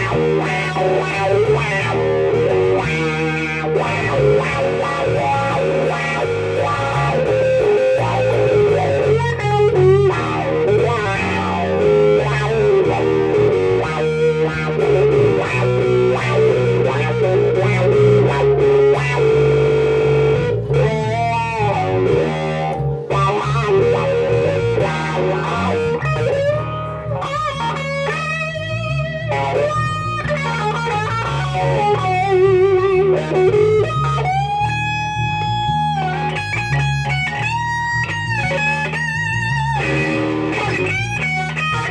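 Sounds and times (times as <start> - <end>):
electric bass line: 0.0 - 41.9
electric guitar lead solo: 0.0 - 41.9.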